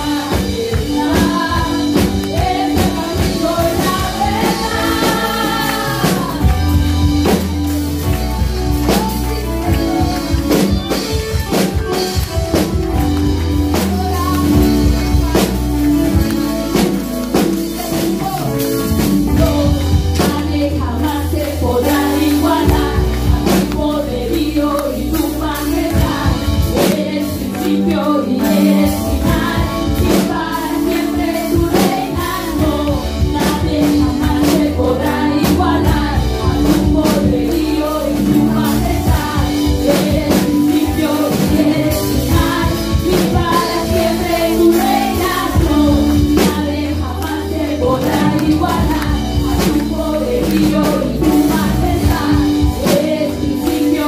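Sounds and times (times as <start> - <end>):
women singing through microphones: 0.0 - 7.5, 13.7 - 54.0
electronic keyboard: 0.0 - 54.0
steady percussion: 0.0 - 54.0.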